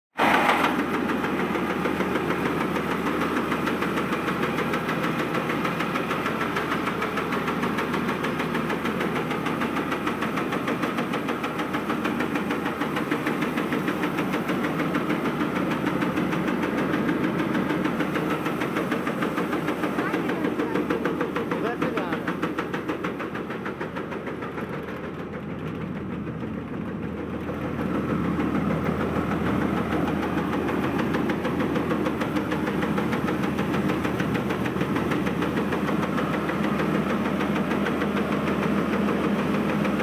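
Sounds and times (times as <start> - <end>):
rice mill machinery running: 0.2 - 40.0.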